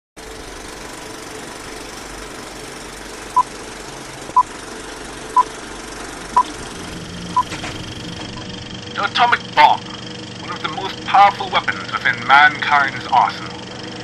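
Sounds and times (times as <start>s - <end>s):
film projector rattle and hiss: 0.2s - 14.0s.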